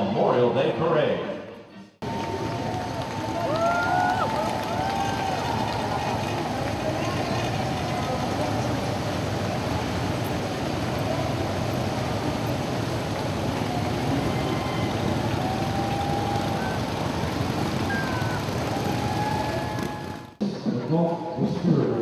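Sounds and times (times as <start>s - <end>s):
low street rumble: 2.0s - 21.9s.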